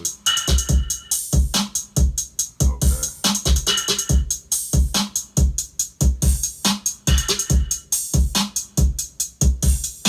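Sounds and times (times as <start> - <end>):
electronic drum beat: 0.0 - 10.0.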